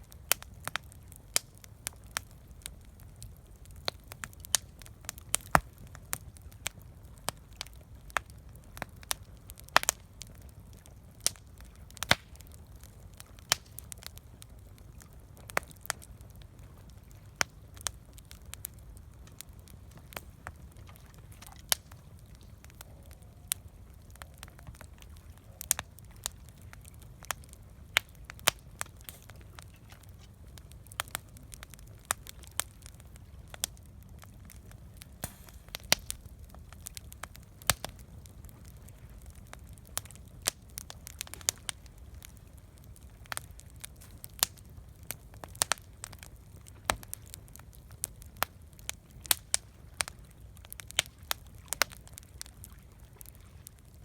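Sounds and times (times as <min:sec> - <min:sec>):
wood campfire crackling: 0:00.0 - 0:54.0.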